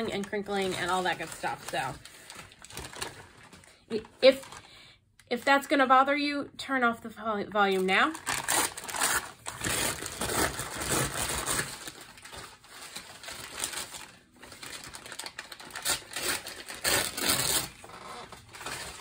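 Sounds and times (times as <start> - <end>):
packing paper being crumpled: 0.0 - 4.7, 7.7 - 19.0.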